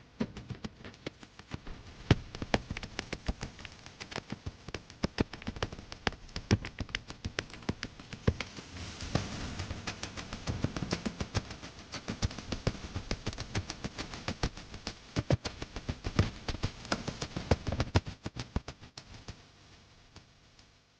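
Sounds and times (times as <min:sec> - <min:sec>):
wood fire crackling and popping: 0:00.1 - 0:19.4.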